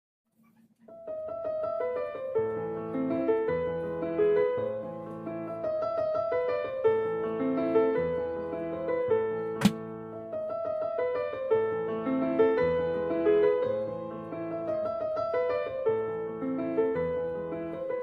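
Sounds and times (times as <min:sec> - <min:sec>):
gentle piano music: 0:00.8 - 0:18.0.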